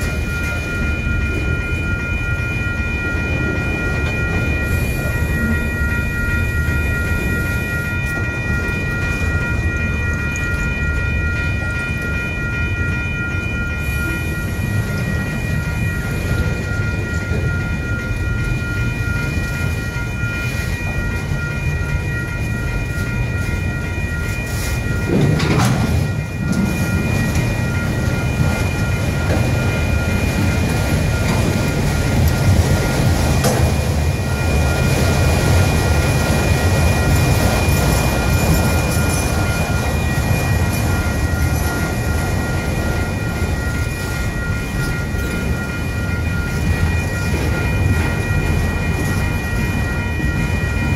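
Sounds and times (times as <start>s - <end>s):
crossing bell ringing: 0.0s - 50.9s
train wheels rumbling on rail: 0.0s - 50.9s.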